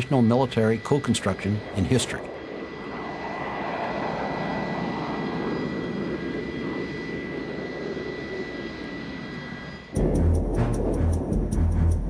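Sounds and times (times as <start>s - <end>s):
jet engine roar and whine: 0.0s - 11.8s.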